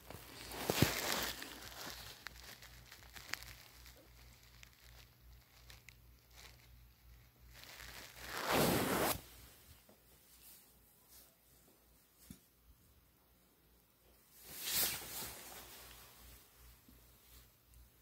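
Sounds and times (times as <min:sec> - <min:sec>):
rustling: 0:00.0 - 0:12.5, 0:14.3 - 0:18.0.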